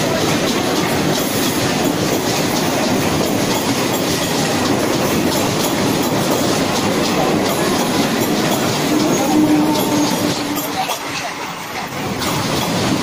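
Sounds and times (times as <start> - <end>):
train wheels rumbling on rails: 0.0 - 13.0
wheels clacking over track joints: 0.0 - 13.0.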